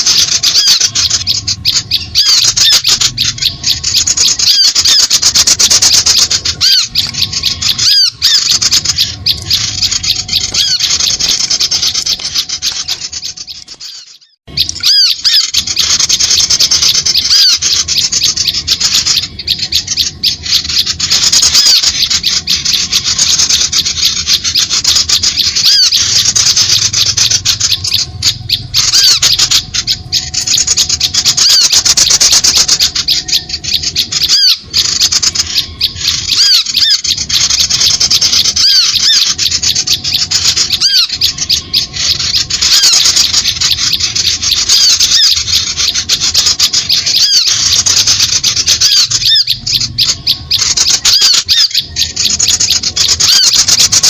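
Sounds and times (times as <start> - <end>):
small birds chattering and squeaking: 0.0 - 54.0.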